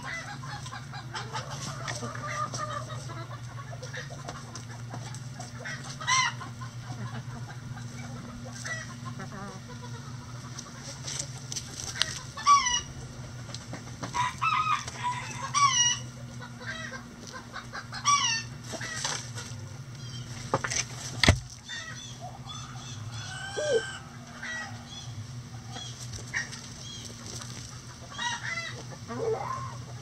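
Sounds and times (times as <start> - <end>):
chickens clucking and squawking: 0.0 - 30.0.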